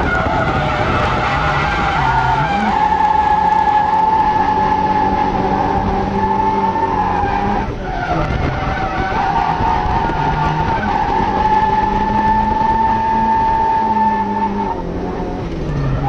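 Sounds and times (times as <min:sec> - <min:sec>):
car engine at high revs: 0:00.0 - 0:16.0
tyres skidding: 0:00.0 - 0:16.0.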